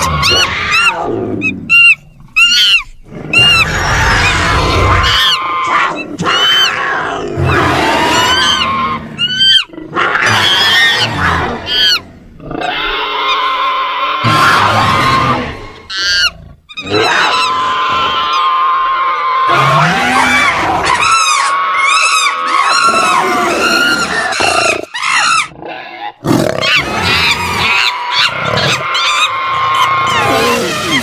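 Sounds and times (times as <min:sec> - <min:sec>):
shrill creature cries: 0:00.0 - 0:31.0
low creature growling: 0:03.0 - 0:31.0.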